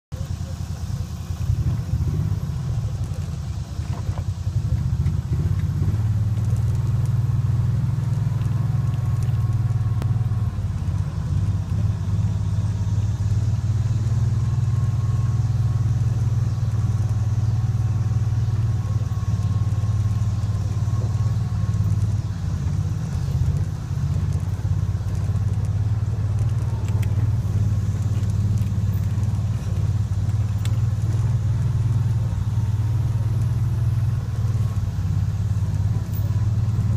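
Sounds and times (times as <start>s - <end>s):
vehicle engine droning: 0.0s - 36.9s.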